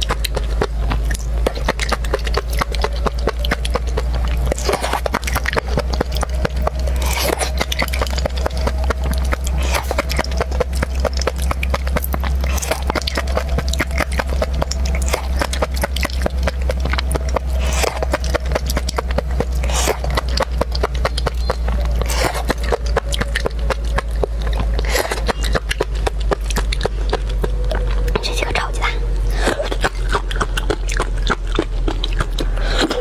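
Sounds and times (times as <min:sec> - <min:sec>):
constant low hum: 0:00.0 - 0:33.0
wet chewing clicks: 0:00.0 - 0:33.0.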